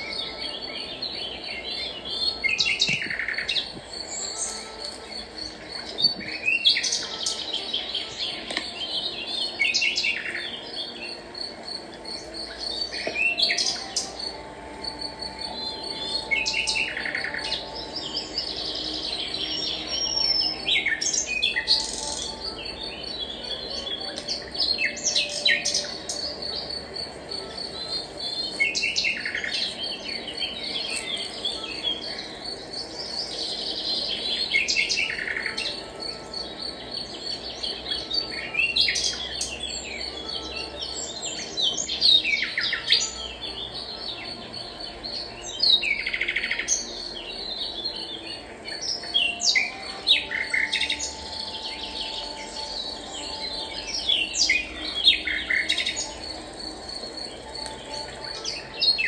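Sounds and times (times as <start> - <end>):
songbirds chirping and singing: 0.0 - 59.0.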